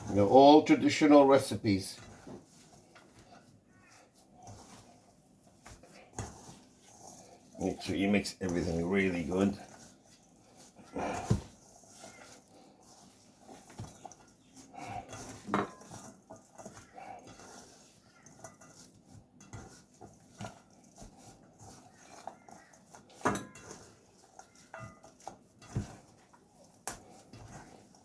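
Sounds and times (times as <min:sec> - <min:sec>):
wet mixture being kneaded: 0:00.0 - 0:28.0.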